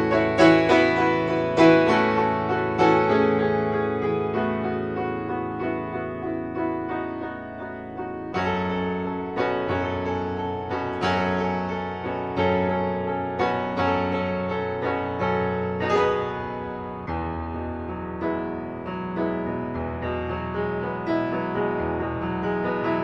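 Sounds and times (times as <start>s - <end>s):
piano notes and chords: 0.0s - 23.0s.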